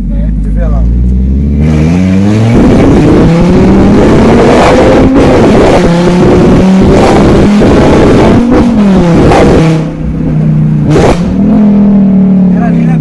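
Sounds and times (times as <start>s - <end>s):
loud car engine accelerating: 0.0s - 13.0s.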